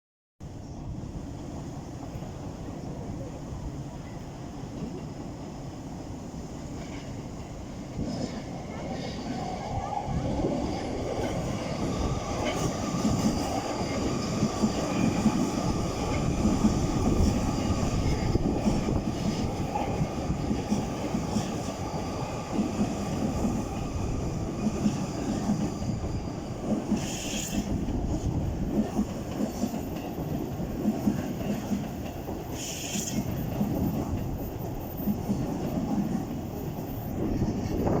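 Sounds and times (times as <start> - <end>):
rail joints clickety-clack: 0.4 - 38.0
train wheels rumbling on rails: 0.4 - 38.0.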